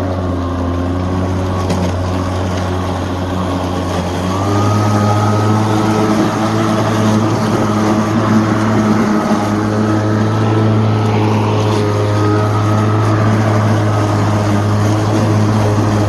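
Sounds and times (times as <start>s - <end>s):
electric lawn mower humming: 0.0s - 16.0s.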